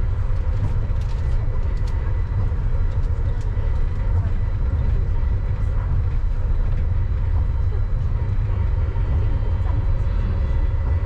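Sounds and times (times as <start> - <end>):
low rumble of rail car: 0.0 - 11.0.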